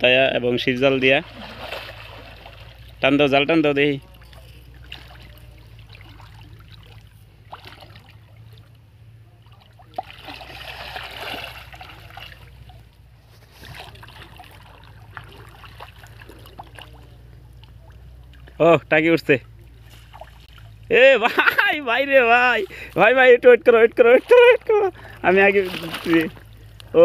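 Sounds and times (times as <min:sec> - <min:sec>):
water sloshing and trickling: 0:00.0 - 0:27.0
water splashing: 0:00.5 - 0:27.0.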